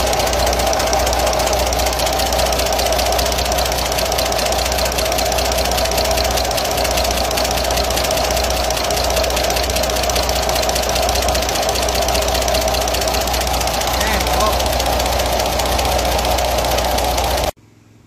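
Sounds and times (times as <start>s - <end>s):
diesel engine running: 0.0s - 17.6s
rapid valve train ticking: 0.0s - 17.6s.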